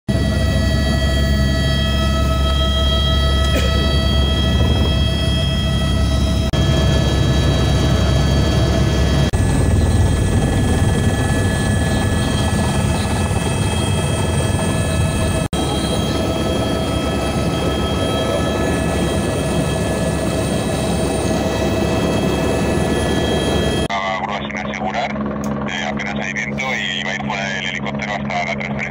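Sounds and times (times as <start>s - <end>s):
helicopter rotor drone: 0.1s - 28.9s
helicopter turbine whine: 0.1s - 28.9s.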